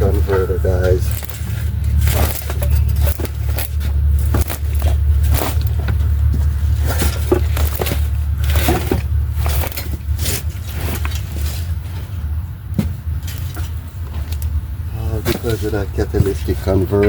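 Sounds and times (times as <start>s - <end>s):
metal knocks and scrapes: 0.0s - 14.6s
steady low hum: 0.0s - 17.0s.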